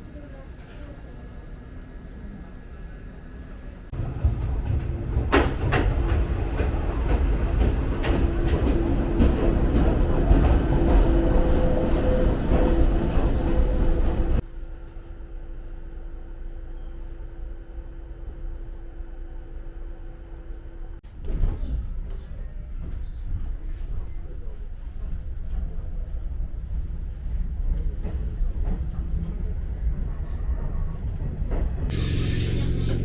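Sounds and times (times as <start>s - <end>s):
electric train rumbling: 0.0s - 21.1s, 21.9s - 33.0s.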